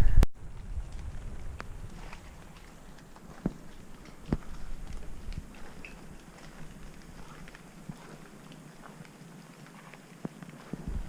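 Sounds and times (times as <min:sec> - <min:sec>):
footsteps on forest trail: 0:00.5 - 0:11.0.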